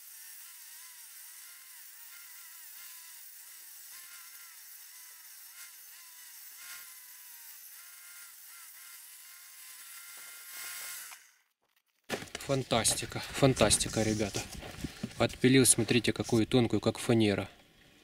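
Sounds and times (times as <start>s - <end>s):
circular saw cutting wood: 0.0s - 11.5s, 12.3s - 18.0s.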